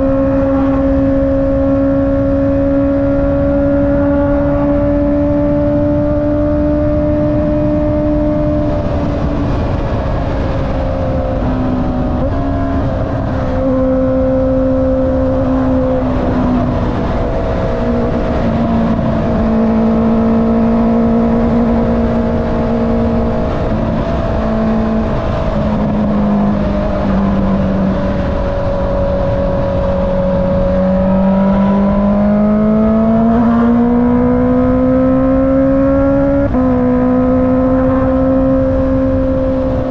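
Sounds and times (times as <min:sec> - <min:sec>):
low wind rumble: 0:00.0 - 0:39.9
motorcycle engine: 0:00.0 - 0:39.9.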